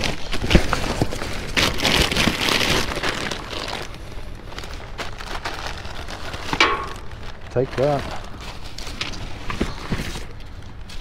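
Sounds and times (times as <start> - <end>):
bags and boxes rustling: 0.0 - 11.0.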